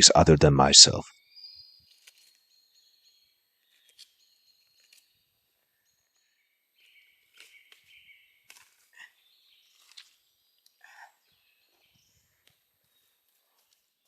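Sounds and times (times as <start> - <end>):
faint high bird chirps: 1.0 - 14.0.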